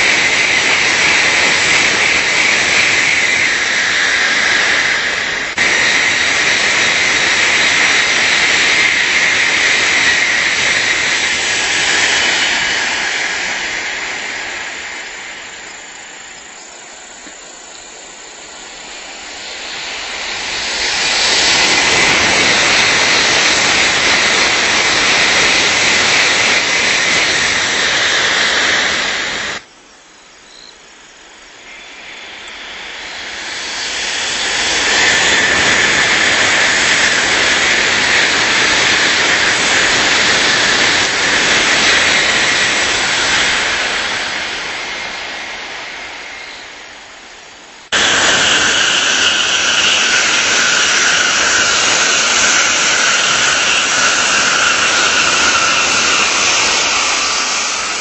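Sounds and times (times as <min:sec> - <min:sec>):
high-speed trains rushing past: 0:00.0 - 0:58.0.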